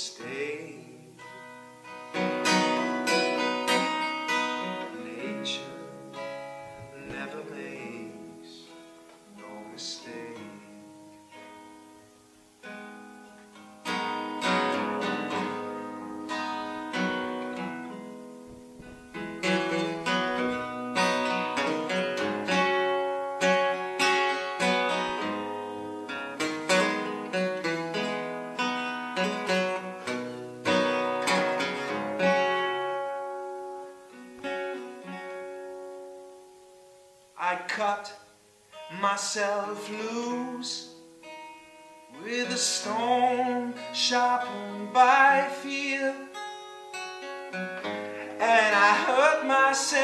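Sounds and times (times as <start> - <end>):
acoustic guitar picking: 0.0 - 50.0.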